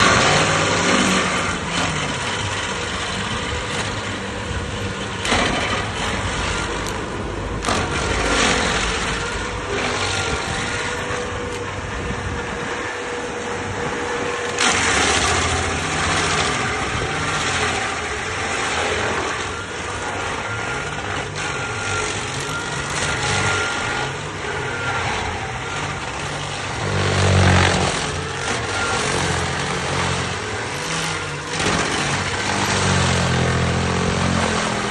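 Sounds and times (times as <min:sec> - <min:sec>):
cutting wheel grinding stump: 0:00.0 - 0:34.9
stump grinder engine running: 0:00.0 - 0:34.9.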